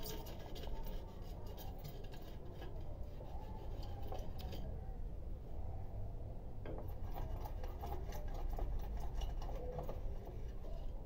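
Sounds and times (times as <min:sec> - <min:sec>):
hand tool scraping tiled wall: 0:00.0 - 0:04.6, 0:06.7 - 0:11.0.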